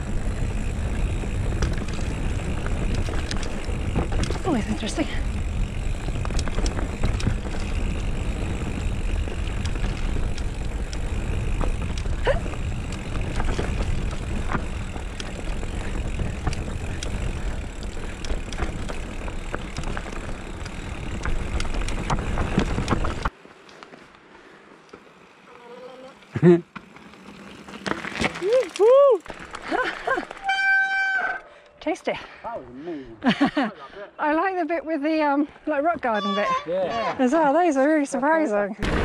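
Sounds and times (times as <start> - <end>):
bike clicks and rattles: 0.0 - 32.0
bike tyres on dirt: 0.0 - 32.7, 34.2 - 39.0.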